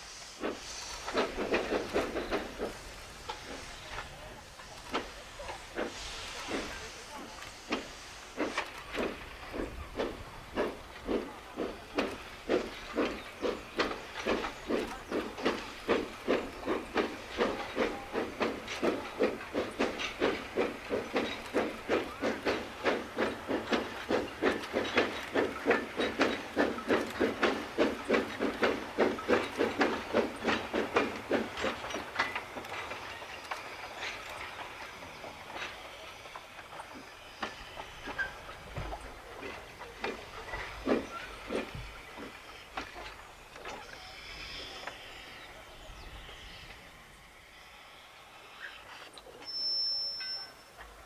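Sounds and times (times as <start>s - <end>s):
steam hiss: 0.0s - 51.0s
steam locomotive chuffing: 0.0s - 51.0s.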